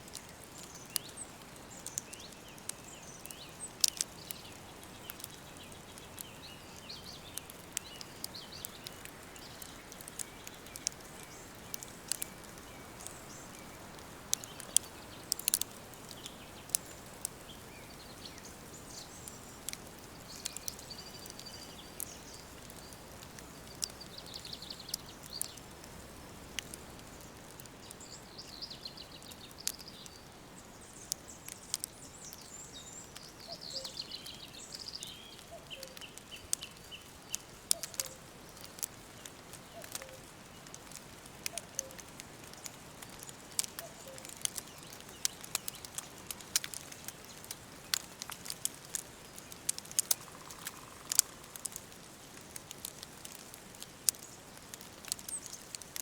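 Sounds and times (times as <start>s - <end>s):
sharp crackles and ticks: 0.0s - 56.0s
birds chirping: 0.2s - 51.8s.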